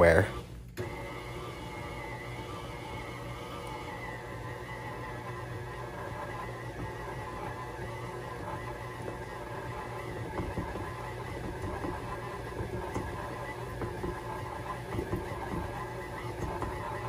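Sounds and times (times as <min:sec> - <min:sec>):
stand mixer motor hum: 0:00.0 - 0:17.0.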